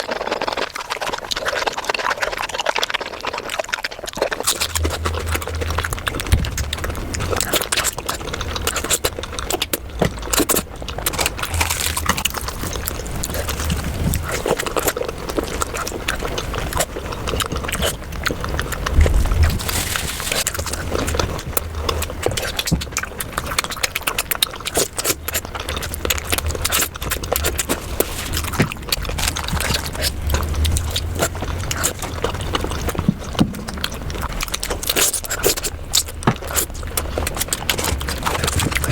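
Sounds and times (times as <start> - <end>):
wet chewing and lip smacks: 0.0 - 38.9
steady low hum: 4.4 - 38.9.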